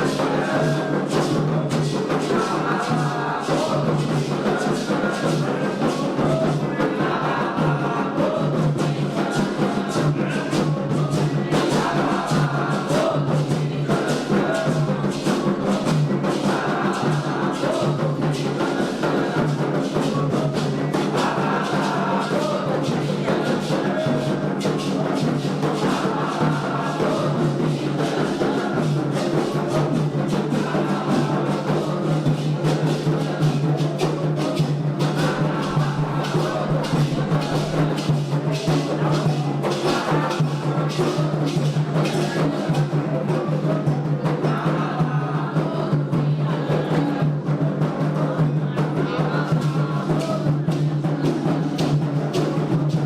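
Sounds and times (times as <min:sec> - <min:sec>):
group singing a chant: 0:00.0 - 0:53.0
hand drums beating: 0:00.0 - 0:53.0.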